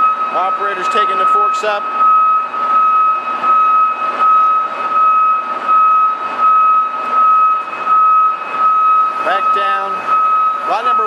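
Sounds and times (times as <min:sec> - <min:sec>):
diesel engine running: 0:00.0 - 0:11.0
high-pitched whine: 0:00.0 - 0:11.0.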